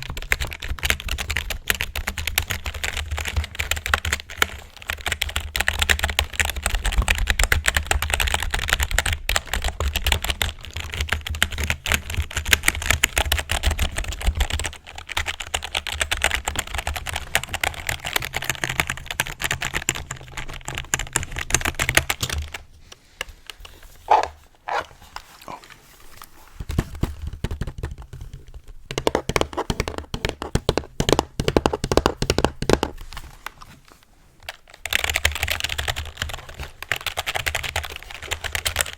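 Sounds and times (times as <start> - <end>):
fast typing on keyboard: 0.0 - 22.6, 26.8 - 33.0, 34.5 - 38.9.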